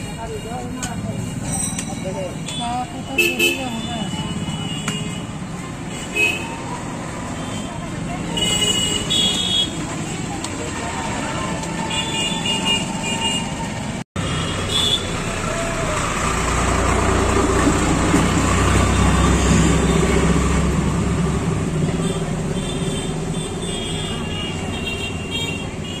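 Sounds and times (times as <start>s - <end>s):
street traffic: 0.0s - 26.0s
vehicle engine rumble: 0.0s - 26.0s.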